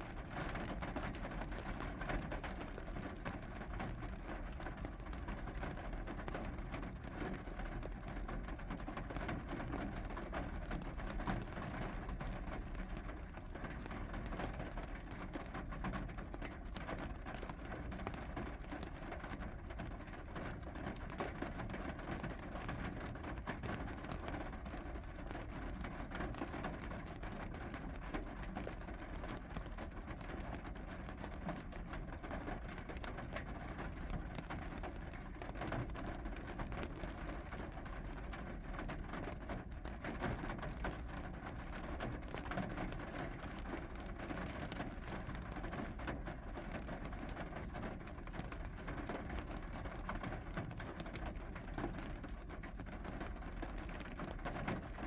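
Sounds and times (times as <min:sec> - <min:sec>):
steady rain falling: 0:00.1 - 0:55.0.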